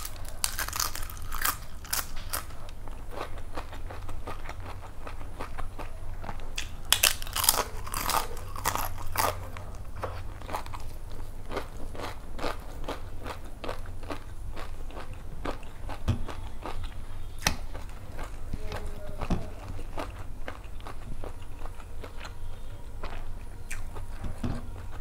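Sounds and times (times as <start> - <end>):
crunching crisp papad: 0.0 - 22.3
chewing with crisp clicks: 0.0 - 24.9.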